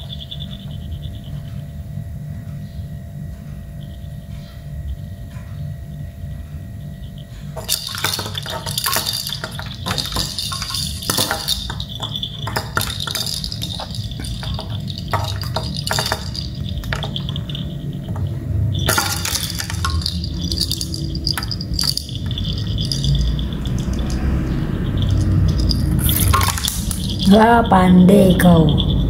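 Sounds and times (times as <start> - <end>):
small bells jingling: 0.0 - 1.7, 7.0 - 29.0.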